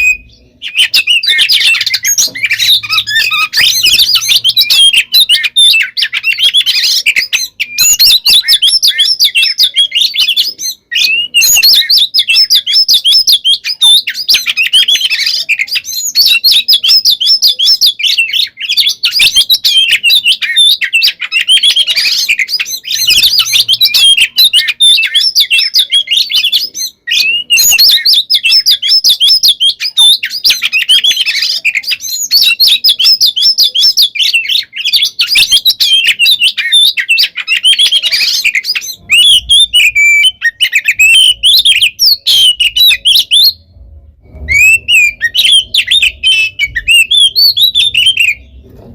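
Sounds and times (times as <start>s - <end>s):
bird singing chirps and whistles: 0.0s - 48.9s.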